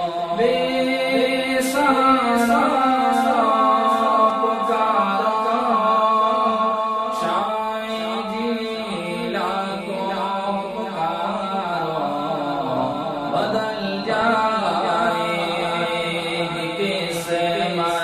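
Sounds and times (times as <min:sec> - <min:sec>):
person chanting devotional song: 0:00.0 - 0:18.0.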